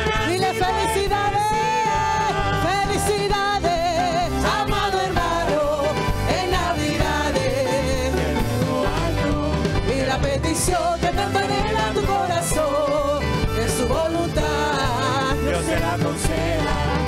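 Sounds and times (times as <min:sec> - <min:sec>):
woman singing into microphone: 0:00.0 - 0:17.0
worship band playing: 0:00.0 - 0:17.0.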